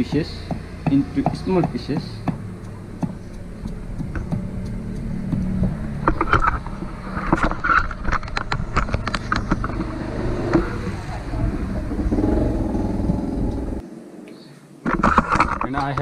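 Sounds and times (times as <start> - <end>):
sharp knocks: 0.0 - 13.8
engine running low hum: 0.0 - 14.2.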